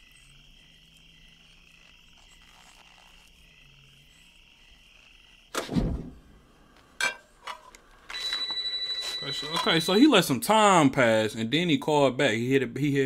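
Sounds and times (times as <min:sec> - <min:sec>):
frogs and insects chirping: 0:00.0 - 0:13.0.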